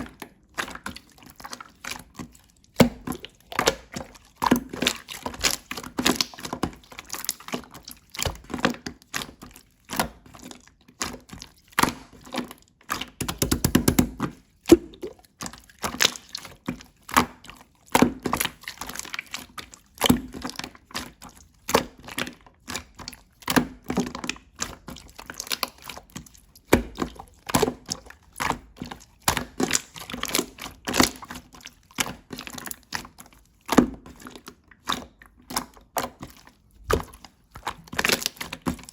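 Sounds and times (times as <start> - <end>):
slime squelching wet clicks: 0.0 - 38.9.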